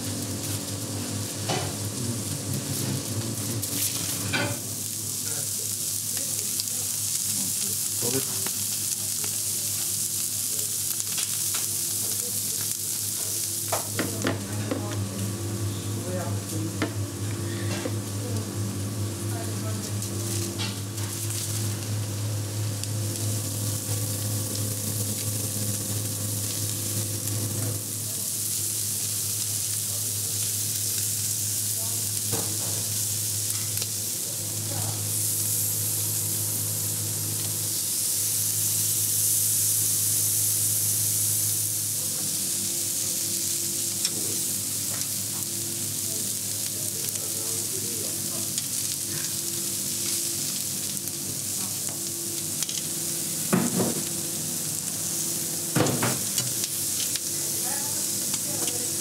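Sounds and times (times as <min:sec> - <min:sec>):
meat sizzling on a grill: 0:00.0 - 0:59.0.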